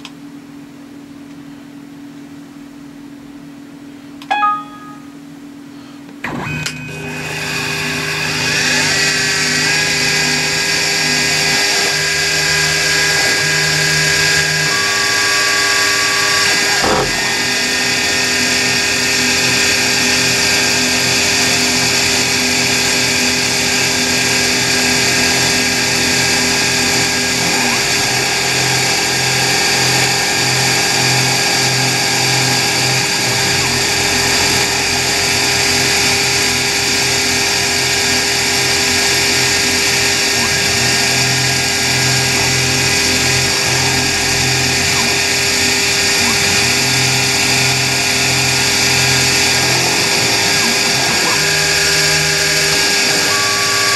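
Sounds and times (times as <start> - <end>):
milling machine whine and hiss: 6.8 - 53.9.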